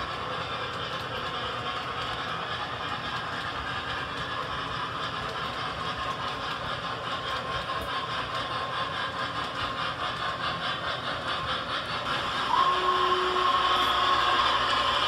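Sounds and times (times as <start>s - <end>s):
model trains whirring clatter: 0.0s - 15.0s.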